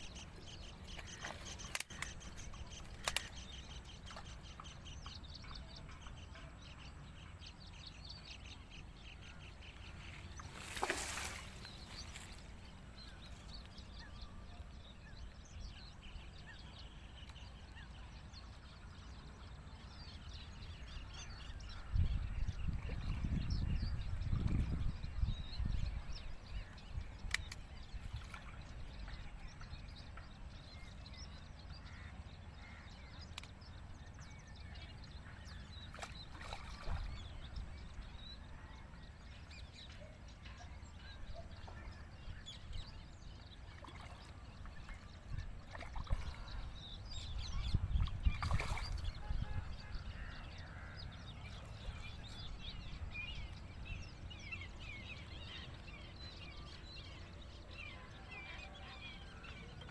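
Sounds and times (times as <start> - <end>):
birds calling: 0.0 - 59.9.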